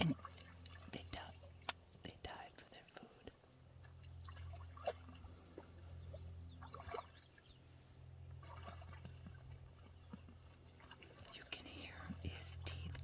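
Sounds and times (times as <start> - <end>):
steady low hum: 0.0 - 13.0
water trickling and splashing: 0.0 - 13.0.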